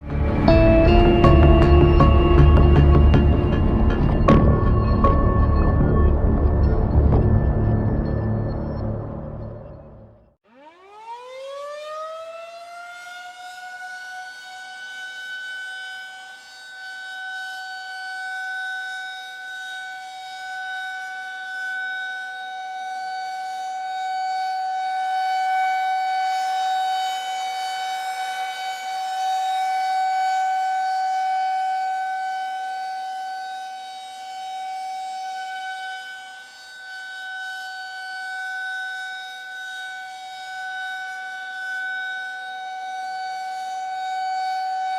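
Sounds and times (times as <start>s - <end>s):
air-raid siren: 0.0s - 44.9s.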